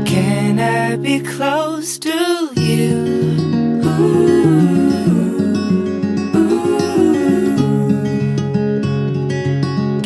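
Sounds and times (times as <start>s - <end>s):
acoustic guitar picked and strummed: 0.0s - 10.0s.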